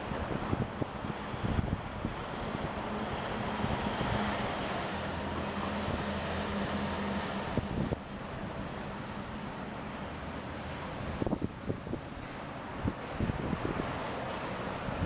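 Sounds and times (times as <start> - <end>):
heavy machinery engine hum: 0.0 - 15.0.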